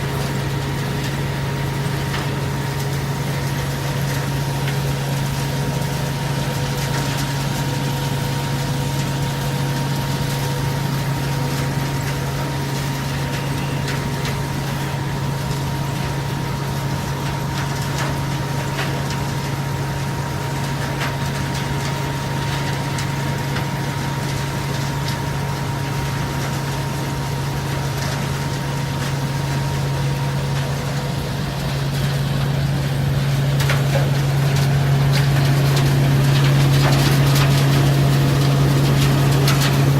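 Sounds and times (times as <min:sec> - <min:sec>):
sorting machine humming and whining: 0:00.0 - 0:39.9.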